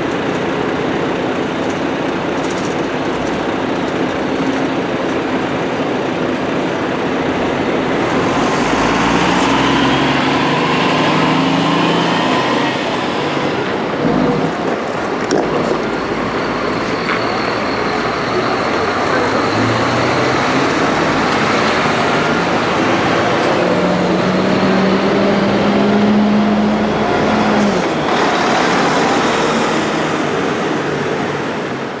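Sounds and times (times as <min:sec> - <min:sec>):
bus engine hum: 0:00.0 - 0:32.0
road traffic noise: 0:00.0 - 0:32.0.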